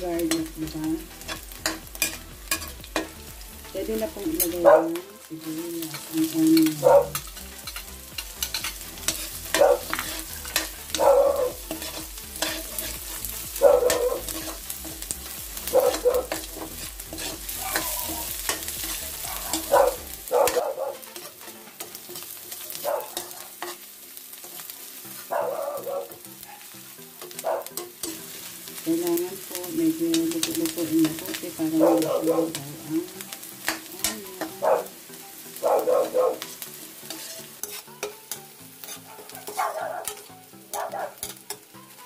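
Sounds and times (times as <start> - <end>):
frying oil sizzling: 0.0 - 42.0
metal spatula scraping a wok: 0.2 - 3.2, 5.8 - 26.2, 27.2 - 42.0.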